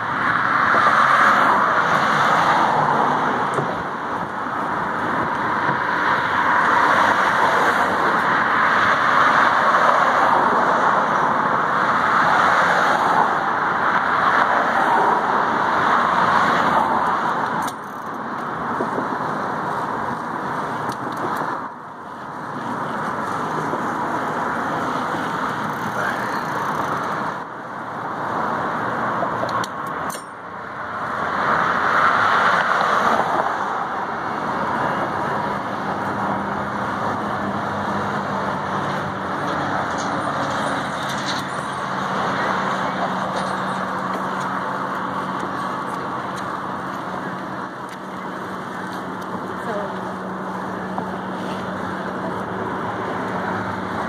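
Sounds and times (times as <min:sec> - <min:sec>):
car traffic rushing: 0:00.0 - 0:54.0.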